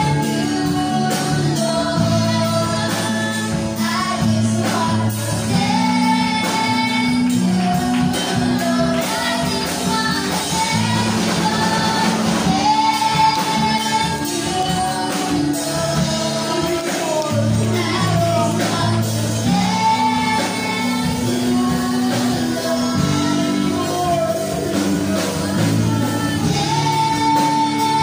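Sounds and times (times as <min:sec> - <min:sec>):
children's choir singing: 0:00.0 - 0:28.0
instrumental accompaniment with beat: 0:00.0 - 0:28.0.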